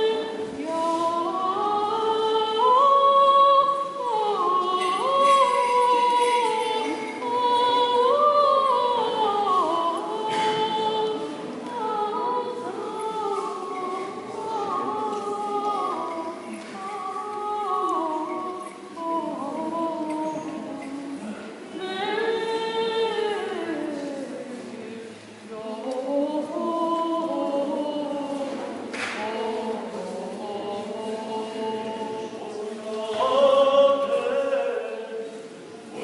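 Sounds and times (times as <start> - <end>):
women's choir singing a cappella: 0.0 - 36.0.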